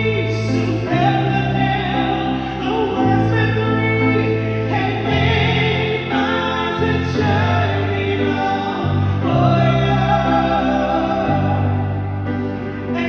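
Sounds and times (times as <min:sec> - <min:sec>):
man and woman singing duet: 0:00.0 - 0:13.0
sustained low accompaniment notes: 0:00.0 - 0:13.0.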